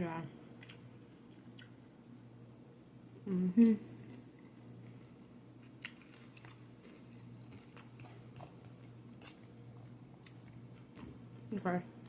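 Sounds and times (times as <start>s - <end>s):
low steady hum: 0.0s - 12.0s
chewing salad: 0.5s - 2.5s, 3.9s - 12.0s.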